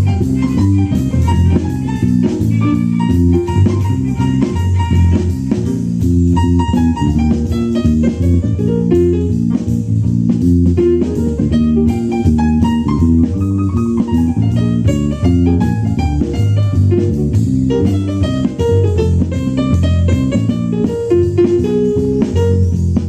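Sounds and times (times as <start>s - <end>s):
bass notes: 0.0s - 23.0s
jazz band playing swing blues: 0.0s - 23.0s.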